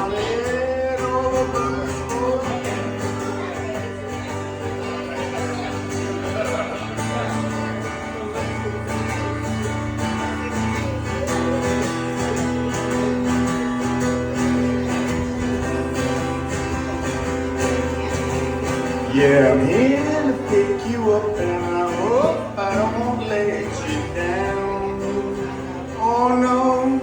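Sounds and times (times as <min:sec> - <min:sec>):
live country guitar music: 0:00.0 - 0:27.0.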